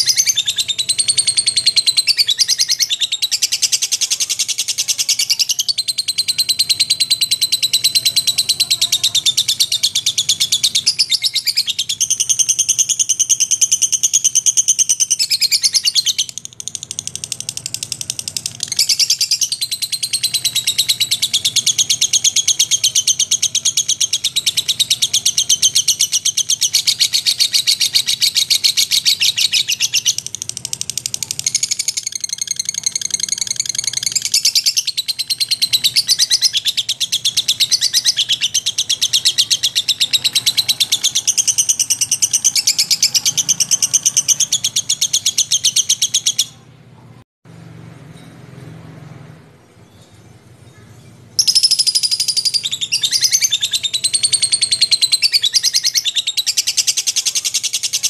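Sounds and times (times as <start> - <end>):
lovebird chattering trill: 0.0 - 46.6, 50.7 - 58.0.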